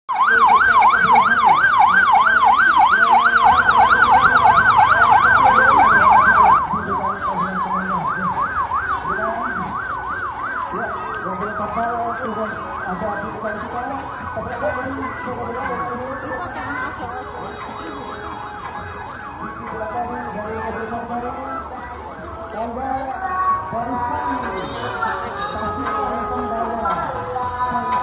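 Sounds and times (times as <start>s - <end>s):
police siren yelping: 0.1s - 28.0s.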